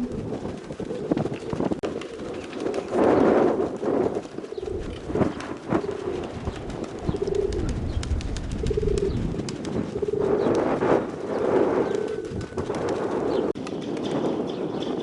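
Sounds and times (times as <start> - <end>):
pigeons cooing: 0.0 - 13.5
wind rumbling on microphone: 0.0 - 15.0.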